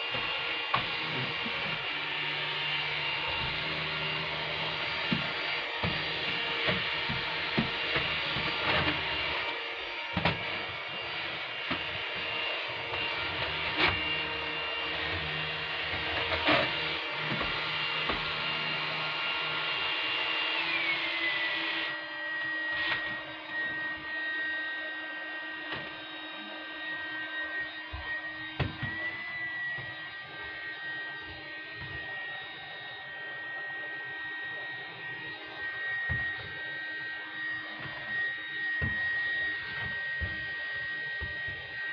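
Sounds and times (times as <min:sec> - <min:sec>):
vacuum cleaner whining: 0:00.0 - 0:41.9.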